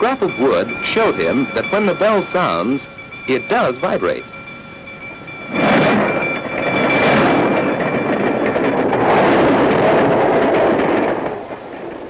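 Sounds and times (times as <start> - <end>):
railroad crossing bell ringing: 0.0 - 10.7
train wheels on rails: 0.0 - 12.0.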